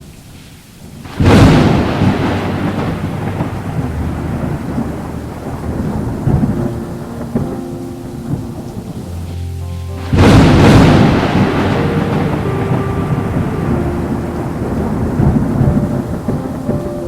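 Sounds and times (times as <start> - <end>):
steady rain: 0.0 - 17.0
thunder rolling: 0.1 - 17.0.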